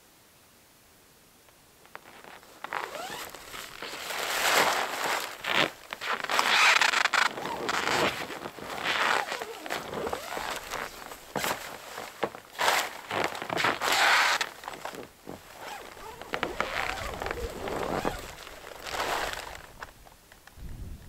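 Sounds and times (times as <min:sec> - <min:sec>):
canvas door flap rustling: 0:01.9 - 0:20.0.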